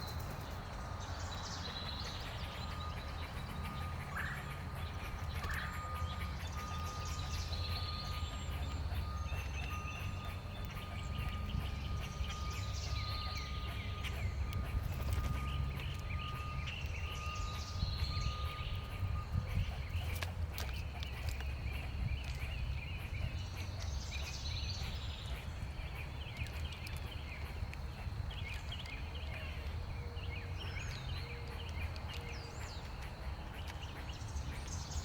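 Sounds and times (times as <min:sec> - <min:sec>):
songbirds chirping: 0:00.0 - 0:35.0
steady low rumble: 0:00.0 - 0:35.0.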